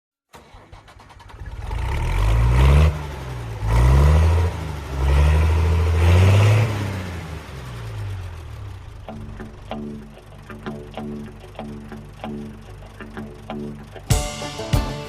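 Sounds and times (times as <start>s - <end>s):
vehicle engine accelerating: 1.0s - 14.1s.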